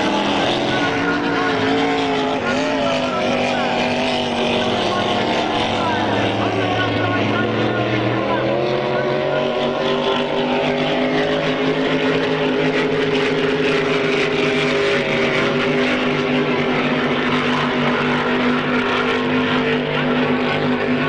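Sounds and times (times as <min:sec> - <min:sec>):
boat engines running: 0:00.0 - 0:21.0.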